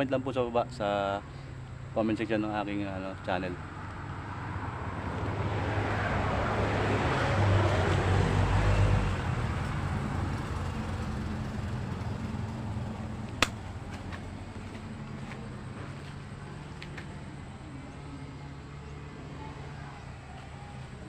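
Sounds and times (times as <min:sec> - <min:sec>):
vehicle passing by: 0:02.9 - 0:21.0.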